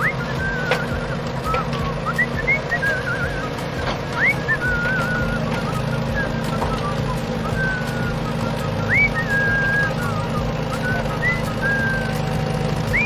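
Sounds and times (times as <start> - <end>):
person whistling: 0.0 - 13.0.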